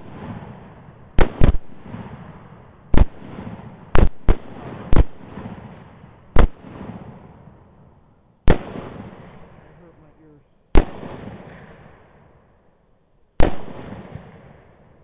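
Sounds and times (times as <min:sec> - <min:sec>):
rifle shots with echo: 0:00.0 - 0:07.6, 0:08.4 - 0:10.1, 0:10.7 - 0:12.4, 0:13.4 - 0:15.0.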